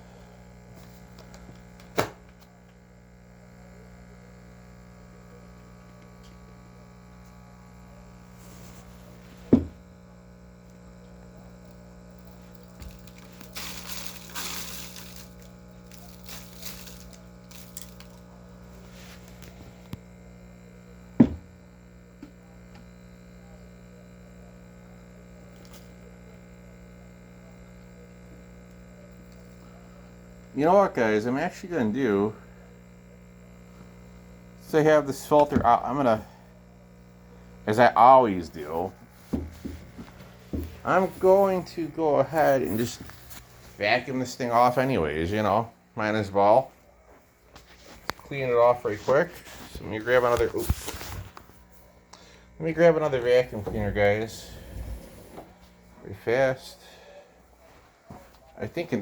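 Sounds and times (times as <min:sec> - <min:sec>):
steady electrical hum: 0:00.0 - 0:59.0.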